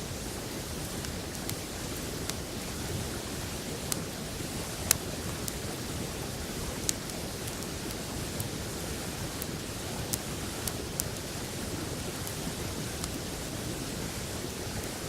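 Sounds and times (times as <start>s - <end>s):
campfire crackling and popping: 0.5s - 15.0s.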